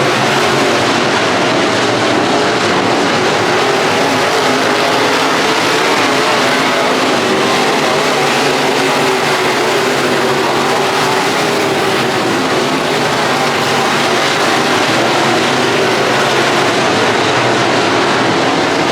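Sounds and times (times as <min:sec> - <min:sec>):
race car engine at high revs: 0:00.0 - 0:18.9
track and wind noise: 0:00.0 - 0:18.9.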